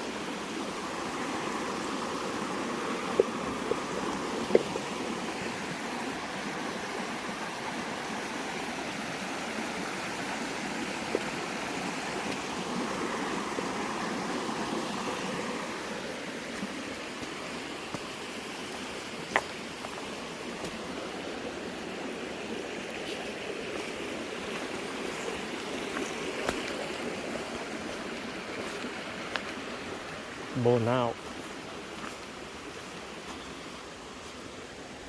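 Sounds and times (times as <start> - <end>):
water rushing over rocks: 0.0 - 35.0.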